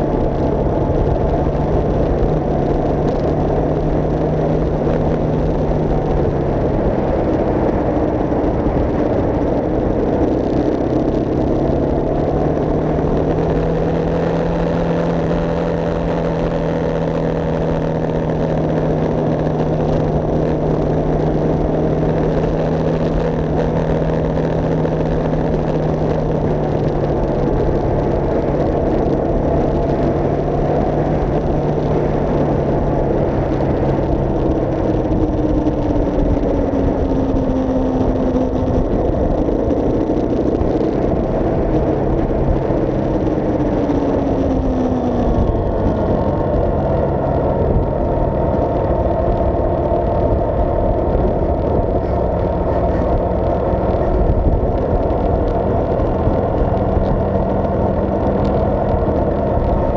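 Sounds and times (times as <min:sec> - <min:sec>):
vehicle engine hum: 0:00.0 - 0:59.9
wind and road noise: 0:00.0 - 0:59.9.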